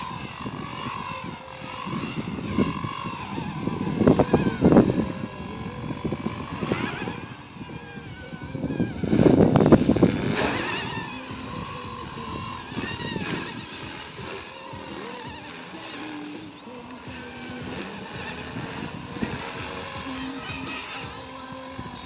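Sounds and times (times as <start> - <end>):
rc helicopter rotor whine: 0.0 - 22.0
wind rumbling on microphone: 0.0 - 22.0.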